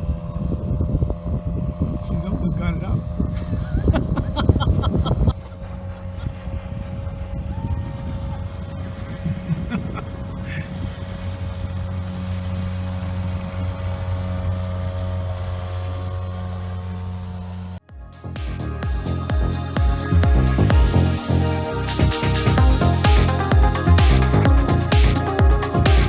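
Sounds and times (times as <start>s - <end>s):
boat motor running: 0.0s - 26.0s.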